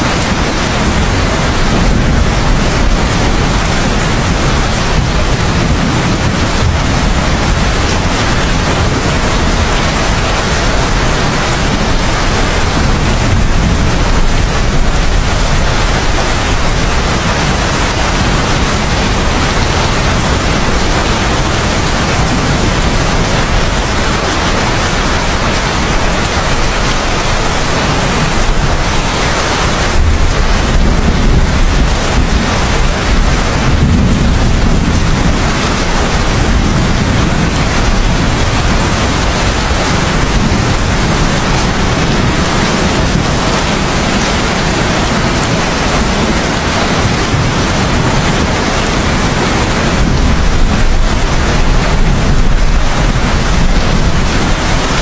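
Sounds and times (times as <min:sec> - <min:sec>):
heavy rain falling: 0:00.0 - 0:55.0
low rumble of thunder: 0:00.0 - 0:55.0.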